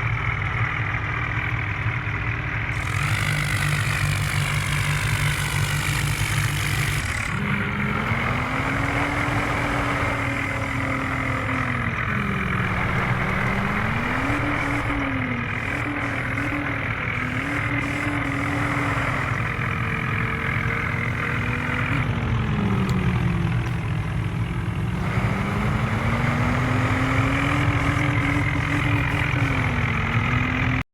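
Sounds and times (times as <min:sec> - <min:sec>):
engine idling: 0:00.0 - 0:30.8
engine throttling up and down: 0:00.0 - 0:30.9.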